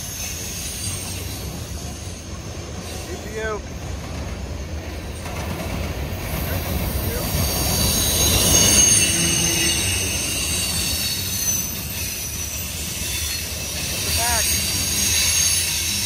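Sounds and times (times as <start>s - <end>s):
freight train rumbling past: 0.0s - 16.0s
train wheels squealing: 0.0s - 16.0s.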